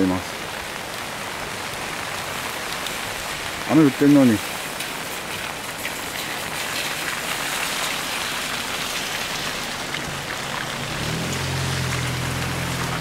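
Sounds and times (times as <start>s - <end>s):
rain falling on a pond: 0.0s - 13.0s.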